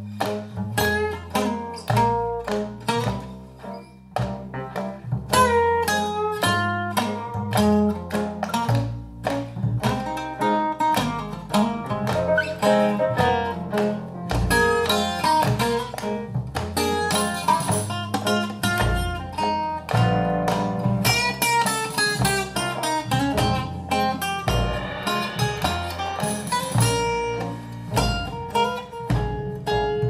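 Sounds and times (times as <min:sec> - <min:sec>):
low bass line: 0:00.0 - 0:17.1, 0:22.2 - 0:30.0
guitar-led music over speakers: 0:00.0 - 0:30.0.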